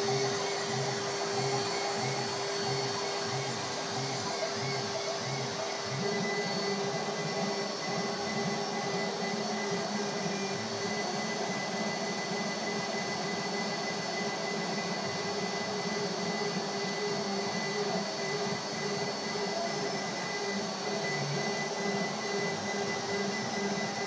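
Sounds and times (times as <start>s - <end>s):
vacuum cleaner droning with whine: 0.0s - 24.0s.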